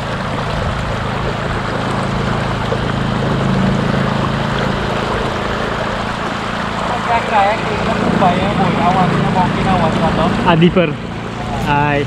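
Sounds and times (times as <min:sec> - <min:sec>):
boat motor droning: 0:00.0 - 0:12.0
water rushing along hulls: 0:00.0 - 0:12.0.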